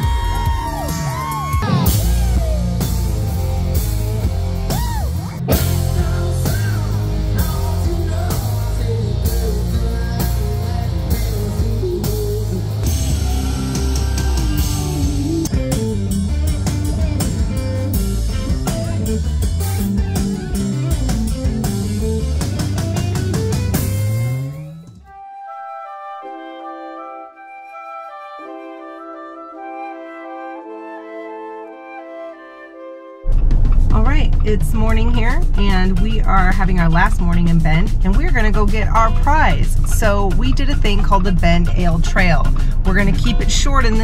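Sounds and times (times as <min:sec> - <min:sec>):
rock music with drums and guitar: 0:00.0 - 0:25.1, 0:33.2 - 0:44.0.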